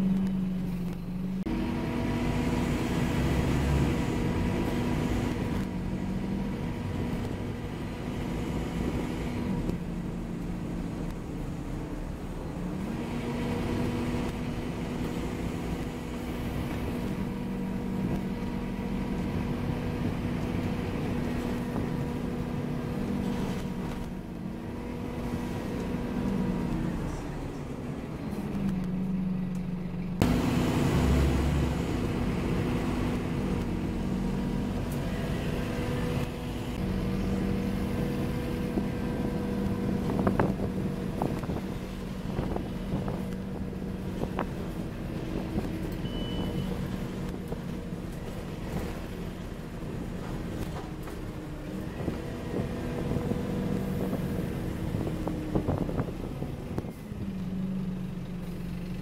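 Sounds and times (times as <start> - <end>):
bump and rumble: 0.0 - 59.0
bus engine drone: 0.0 - 59.0.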